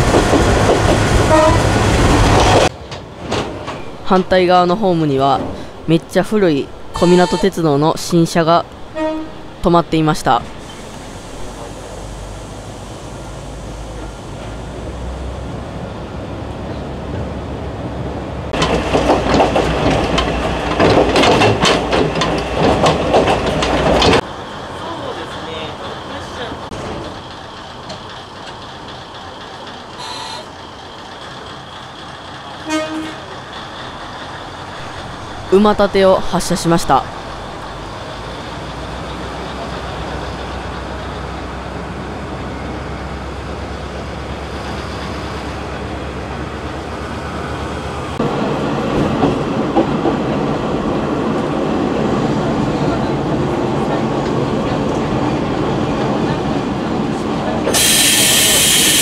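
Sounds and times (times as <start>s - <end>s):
wheels clattering on rail: 0.0s - 5.8s, 10.4s - 59.0s
train running noise: 0.0s - 59.0s
diesel engine rumble: 8.1s - 59.0s.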